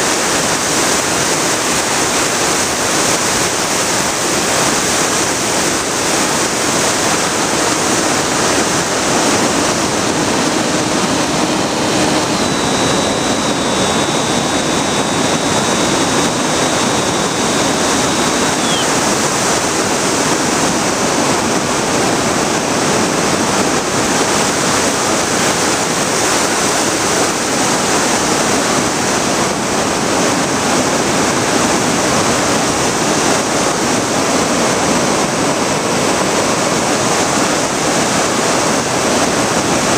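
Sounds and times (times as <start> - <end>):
thin high whine: 0.0 - 33.5
propeller noise: 0.0 - 39.9
rushing wind noise: 0.0 - 39.9.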